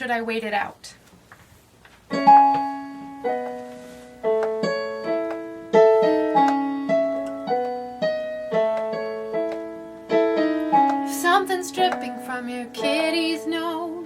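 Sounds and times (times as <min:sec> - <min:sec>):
piano chords: 0:02.1 - 0:14.0.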